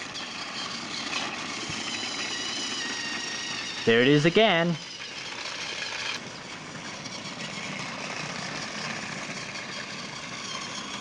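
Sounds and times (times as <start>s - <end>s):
toy train motor whirring: 0.0s - 11.0s
wheels rattling on plastic track: 0.0s - 11.0s.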